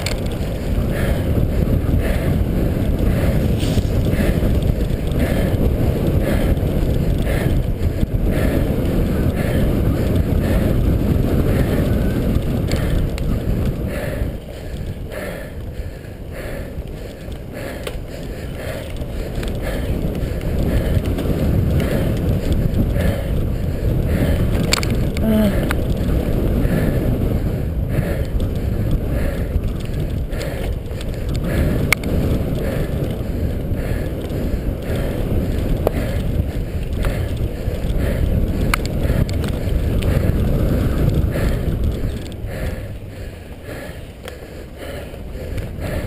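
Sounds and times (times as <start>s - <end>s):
bike clicks and rattles: 0.0s - 46.0s
tyres rumbling on dirt: 0.0s - 46.0s
wind buffeting microphone: 0.0s - 46.0s.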